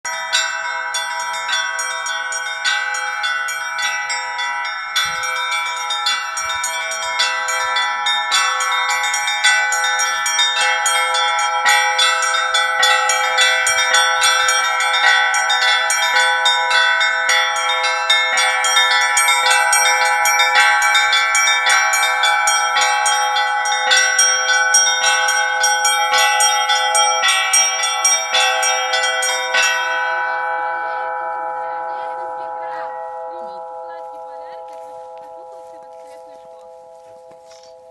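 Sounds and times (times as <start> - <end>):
church bells pealing: 0.0 - 37.9.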